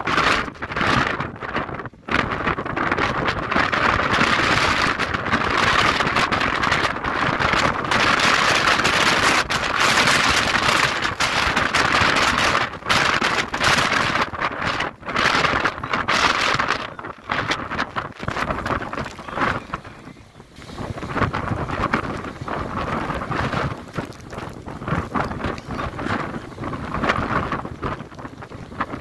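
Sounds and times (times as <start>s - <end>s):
gusty wind on microphone: 0.0s - 29.0s.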